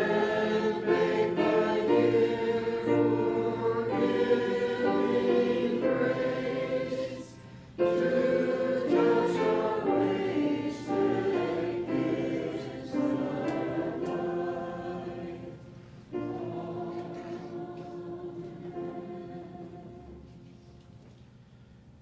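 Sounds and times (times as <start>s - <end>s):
group singing a hymn: 0.0s - 20.6s.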